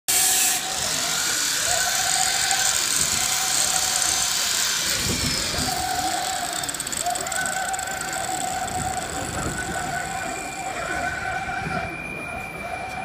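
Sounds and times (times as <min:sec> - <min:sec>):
electric actuators whining: 0:00.1 - 0:13.0.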